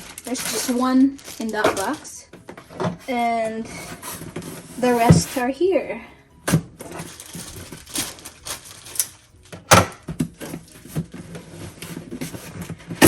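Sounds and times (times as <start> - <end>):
packaging rustling and crinkling: 0.0 - 5.2, 6.7 - 13.0.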